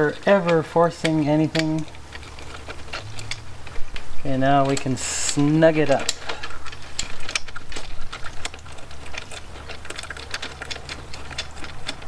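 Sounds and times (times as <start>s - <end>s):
small metal clicks and ticks: 0.0s - 12.0s.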